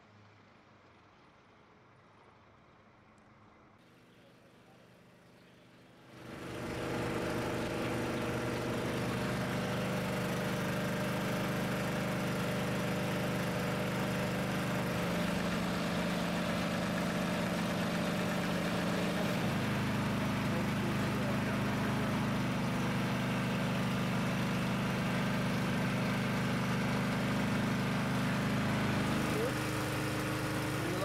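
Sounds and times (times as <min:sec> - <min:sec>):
engine running steadily: 0:03.8 - 0:31.0.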